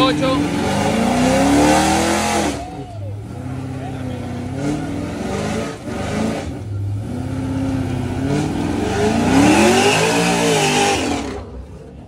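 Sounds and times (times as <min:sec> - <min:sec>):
car engine revving hard: 0:00.0 - 0:11.6.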